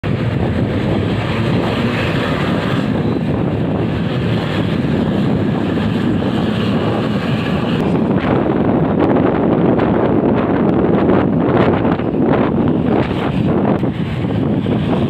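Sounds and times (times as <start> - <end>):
traffic noise: 0.0 - 15.0
wind buffeting microphone: 0.0 - 15.0.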